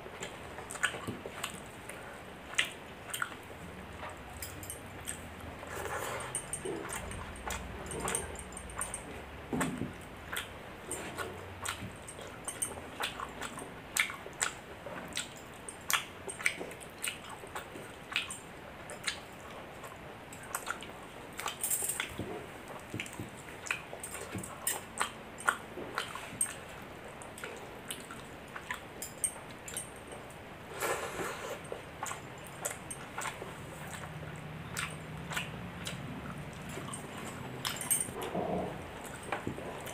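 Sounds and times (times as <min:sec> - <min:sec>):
chewing and lip smacking: 0:00.1 - 0:39.9.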